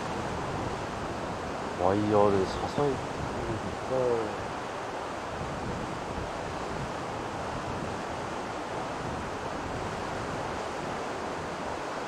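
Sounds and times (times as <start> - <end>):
sea surf rushing: 0.0 - 12.0
wind on microphone: 0.0 - 12.0.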